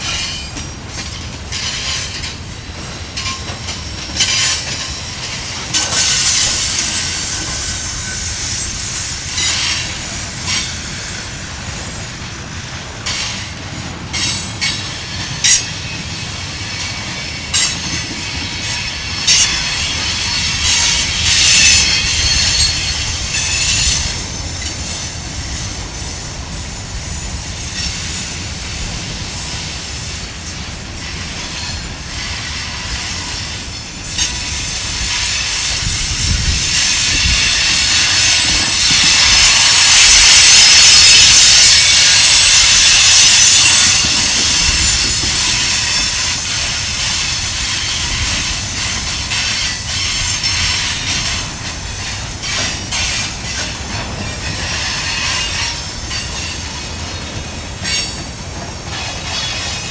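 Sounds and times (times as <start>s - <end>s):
train wheel clacks: 0.0s - 59.9s
train wheels squealing: 0.0s - 59.9s.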